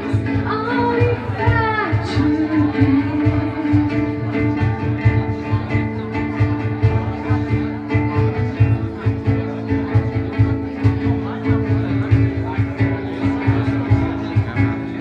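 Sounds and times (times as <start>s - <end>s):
guitar with held notes: 0.0s - 15.0s.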